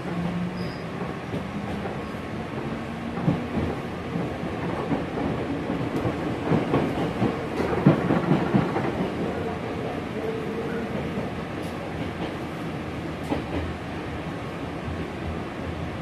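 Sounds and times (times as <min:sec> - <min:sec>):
train wheels rumbling: 0:00.0 - 0:14.2.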